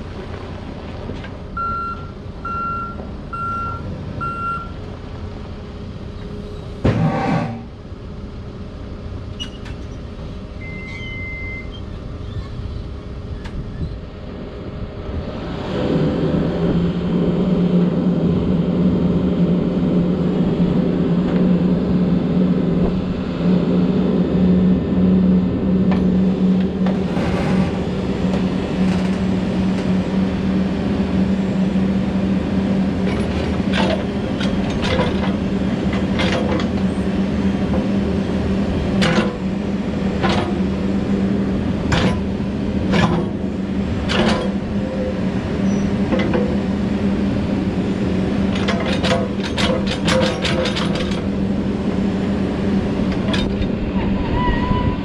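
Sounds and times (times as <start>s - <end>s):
diesel engine running: 0.0s - 55.0s
hydraulics working: 8.7s - 55.0s.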